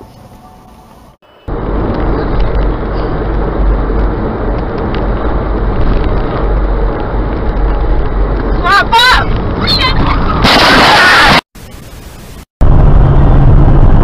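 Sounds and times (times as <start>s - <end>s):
car engine and tyre rumble: 0.0s - 10.5s, 12.6s - 14.0s.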